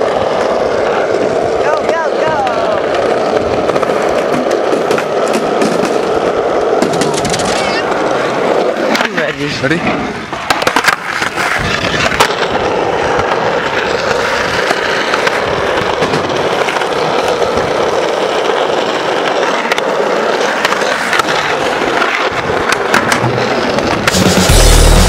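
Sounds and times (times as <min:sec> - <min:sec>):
skateboard wheels rolling on concrete: 0:00.0 - 0:25.0.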